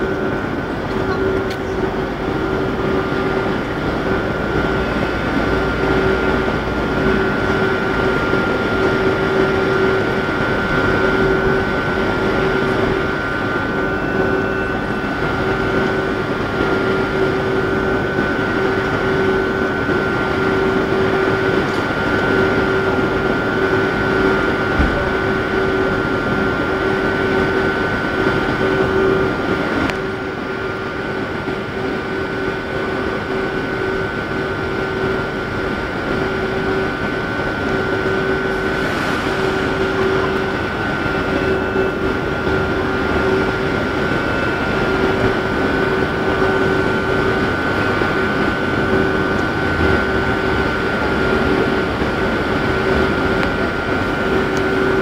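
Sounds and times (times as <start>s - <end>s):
electric train equipment hum: 0.0s - 55.0s.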